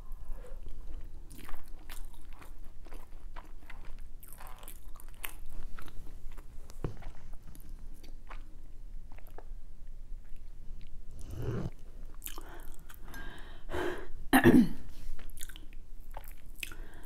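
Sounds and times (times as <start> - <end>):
chewing food: 0.0 - 13.2, 15.2 - 17.0.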